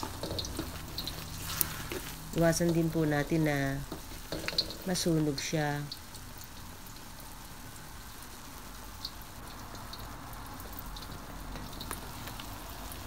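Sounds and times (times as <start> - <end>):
eggs sizzling in a pan: 0.0 - 13.0.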